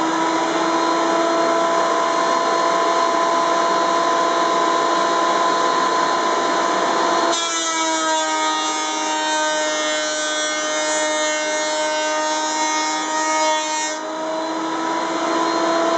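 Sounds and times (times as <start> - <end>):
planer cutting wood: 0.0 - 15.9.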